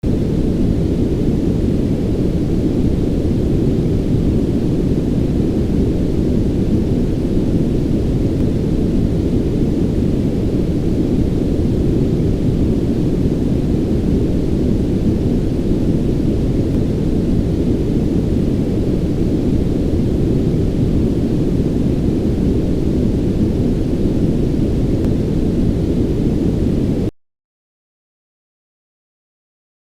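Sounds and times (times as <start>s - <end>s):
brown noise rumbling hiss: 0.0s - 27.1s.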